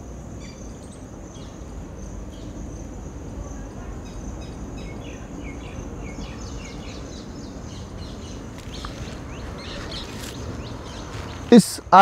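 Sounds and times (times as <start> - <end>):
high insect buzz: 0.0 - 11.7
bird chirping: 0.0 - 12.0
low background rumble: 0.0 - 12.0.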